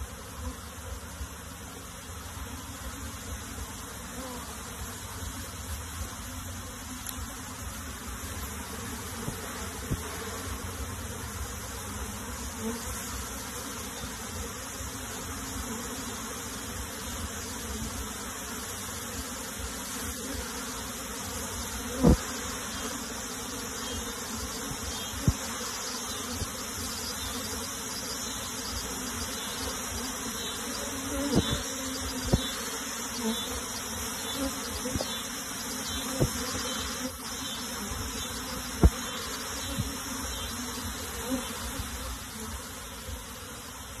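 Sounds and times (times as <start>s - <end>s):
honey bees buzzing: 0.0s - 44.0s.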